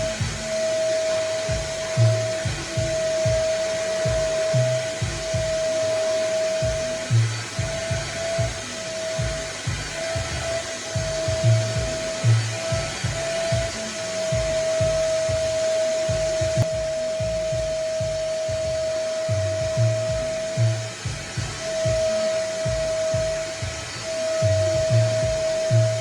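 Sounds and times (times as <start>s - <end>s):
low thumps: 0.0s - 26.0s
vacuum cleaner whining: 0.0s - 26.0s.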